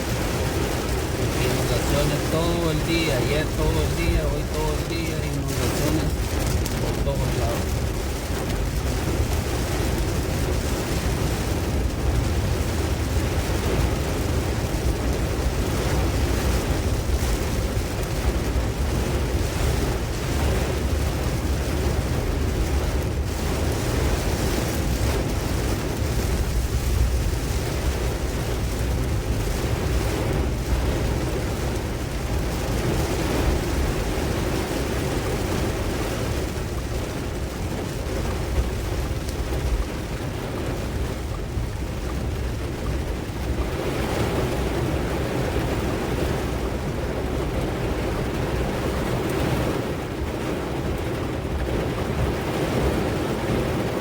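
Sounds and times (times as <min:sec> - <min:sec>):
wind blowing across microphone: 0:00.0 - 0:54.0.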